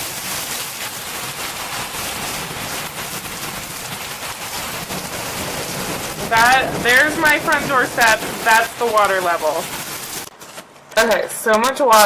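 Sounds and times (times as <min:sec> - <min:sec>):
rain pouring: 0:00.0 - 0:12.0.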